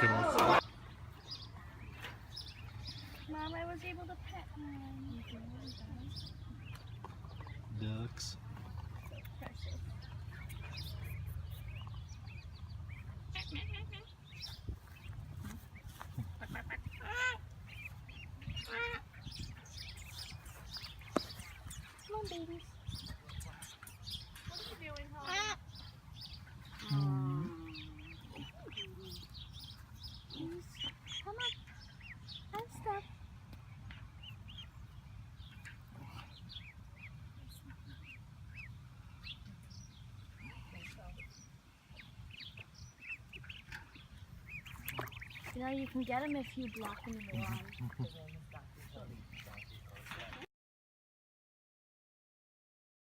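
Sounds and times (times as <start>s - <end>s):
ducks calling: 0.0s - 50.4s.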